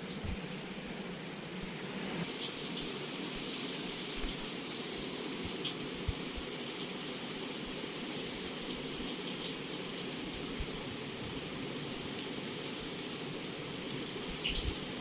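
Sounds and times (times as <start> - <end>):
heavy rain against a window: 0.0 - 15.0.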